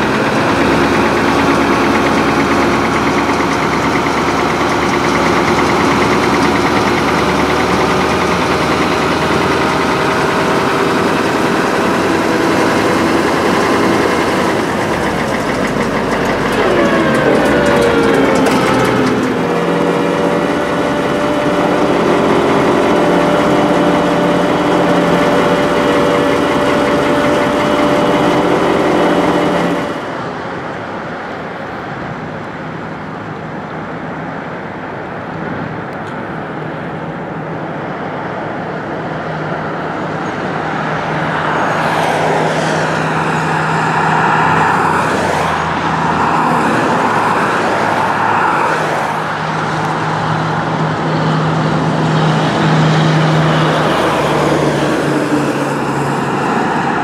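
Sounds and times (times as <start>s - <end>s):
truck engine idling: 0.0s - 32.1s, 35.2s - 57.0s
cars passing on wet road: 0.0s - 57.0s.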